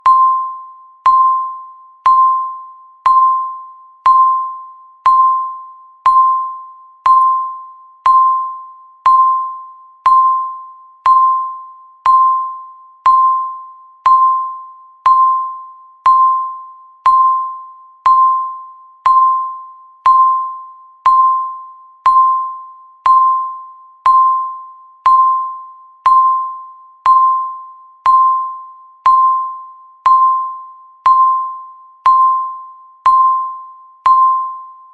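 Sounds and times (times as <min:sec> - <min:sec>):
electronic timer beeps: 0:00.0 - 0:34.9.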